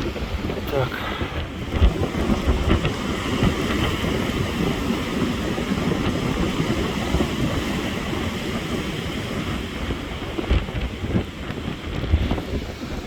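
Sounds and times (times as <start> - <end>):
surf breaking on shore: 0.0 - 13.0
wind buffeting microphone: 0.0 - 13.0.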